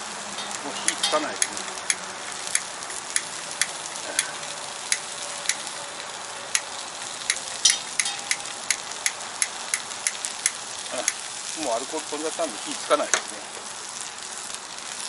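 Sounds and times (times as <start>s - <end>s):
onions sizzling in a frying pan: 0.0s - 15.0s
sharp crackling pops: 0.0s - 15.0s.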